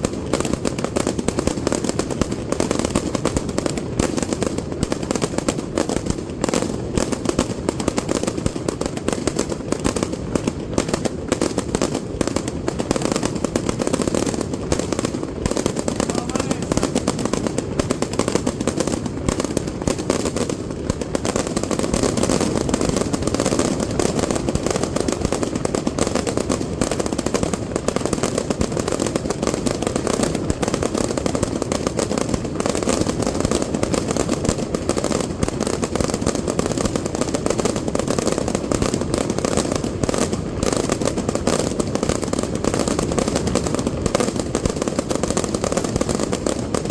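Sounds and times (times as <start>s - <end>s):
fireworks exploding: 0.0s - 46.9s.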